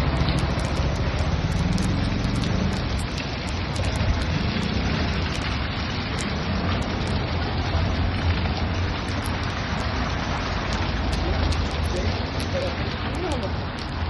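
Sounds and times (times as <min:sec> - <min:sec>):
road traffic rumble: 0:00.0 - 0:14.0
steady rain falling: 0:00.0 - 0:14.0.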